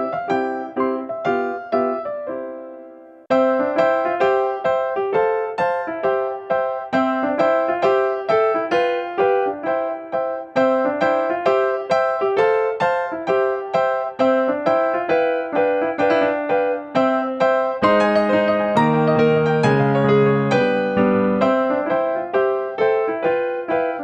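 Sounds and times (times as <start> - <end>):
piano melody: 0.0 - 24.0.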